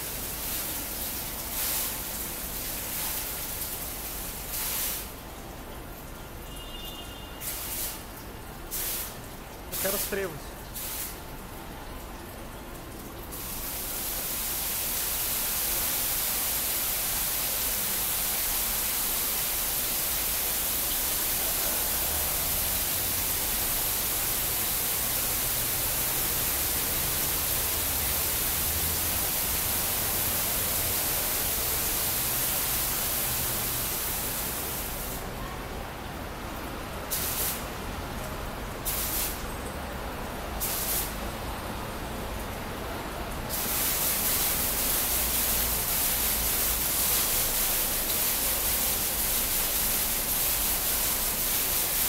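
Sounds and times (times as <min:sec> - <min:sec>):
fountain water falling hiss: 0:00.0 - 0:52.0.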